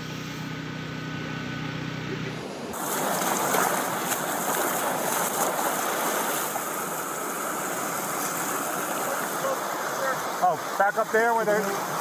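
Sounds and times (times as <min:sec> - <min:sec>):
floodwater rushing: 0:02.3 - 0:12.0.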